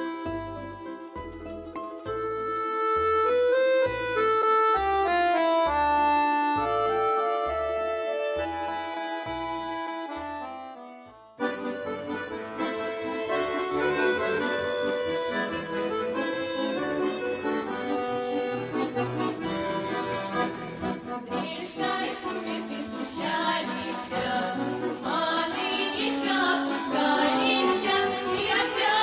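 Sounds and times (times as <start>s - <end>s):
accordion folk tune: 0.0s - 29.0s.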